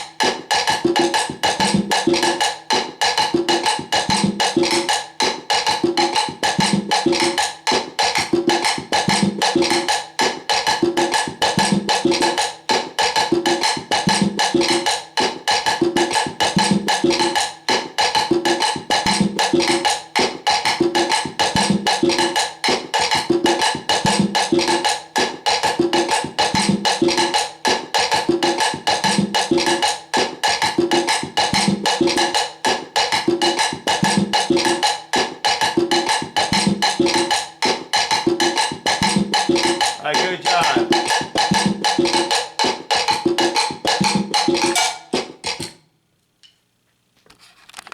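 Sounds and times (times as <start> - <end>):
conga drum tones: 0.0 - 45.8.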